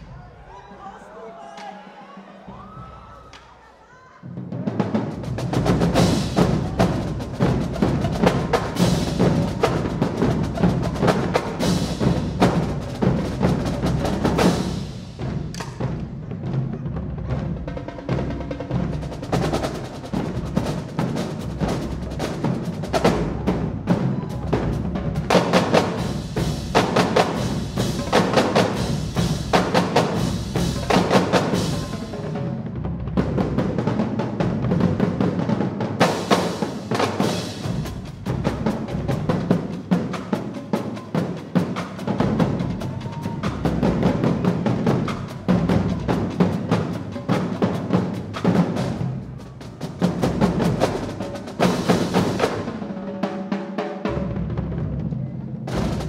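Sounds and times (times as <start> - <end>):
snare and tenor drum strokes: 4.3 - 56.0.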